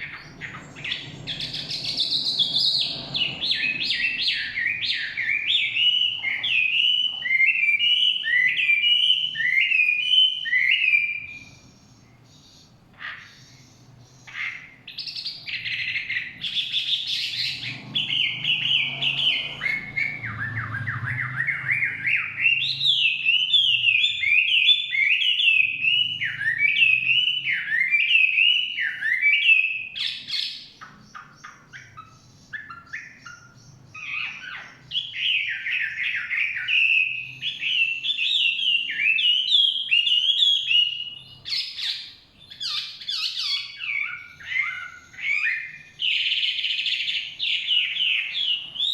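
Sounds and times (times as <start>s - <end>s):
bird singing whistled phrases: 0.0s - 48.9s.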